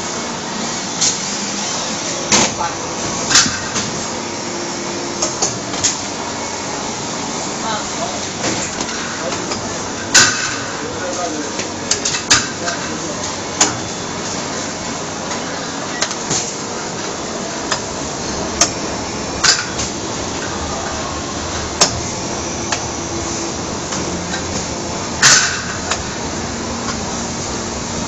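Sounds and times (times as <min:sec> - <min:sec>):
factory floor background noise: 0:00.0 - 0:28.0.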